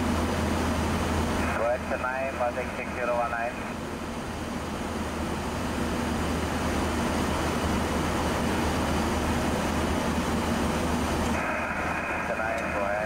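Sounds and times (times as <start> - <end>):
airflow and air conditioning rush: 0.0 - 13.0.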